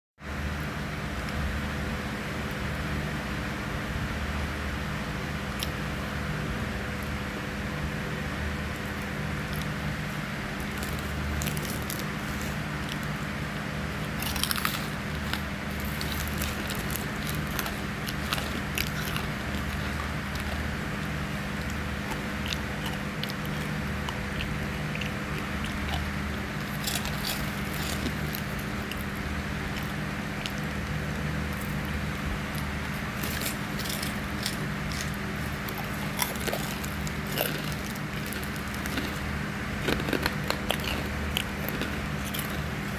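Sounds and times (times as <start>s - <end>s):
steady low hum: 0.2s - 42.9s
crunchy snack chewing: 5.5s - 5.8s, 8.7s - 42.9s.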